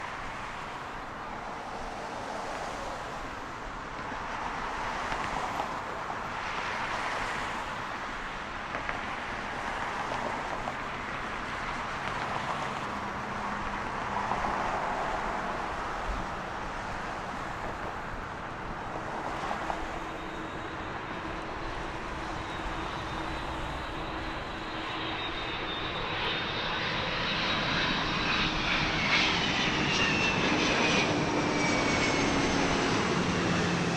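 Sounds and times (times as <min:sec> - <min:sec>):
jet engine whine: 0:00.0 - 0:33.9
jet engines rumbling: 0:00.2 - 0:33.9.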